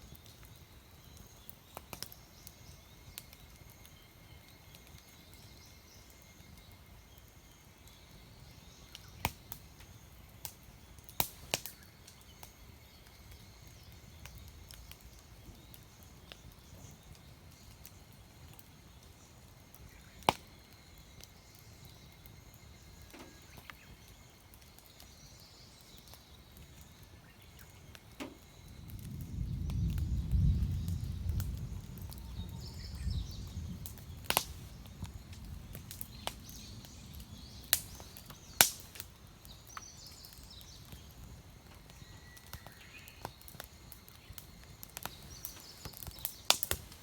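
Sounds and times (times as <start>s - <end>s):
campfire pops and cracks: 0.0s - 47.0s.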